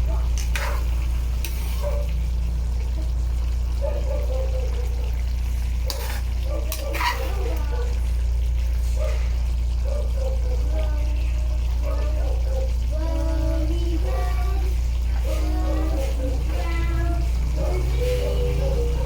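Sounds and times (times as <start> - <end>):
curry frying in a pan: 0.0 - 19.0
steady low hum: 0.0 - 19.0.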